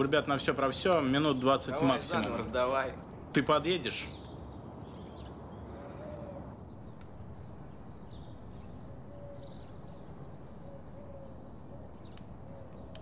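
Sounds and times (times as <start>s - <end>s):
background hum and hiss: 0.0s - 13.0s
small birds chirping: 0.0s - 13.0s.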